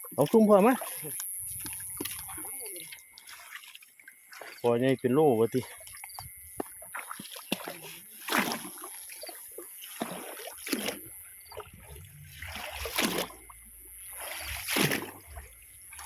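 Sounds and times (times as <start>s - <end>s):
trickling water: 0.0s - 16.0s
water splashing swishes: 0.0s - 16.0s.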